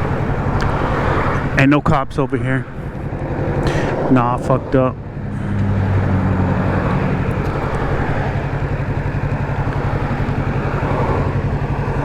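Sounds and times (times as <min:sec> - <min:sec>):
motorcycle engine at low revs: 0:00.0 - 0:12.0
road and wind noise: 0:00.0 - 0:12.0.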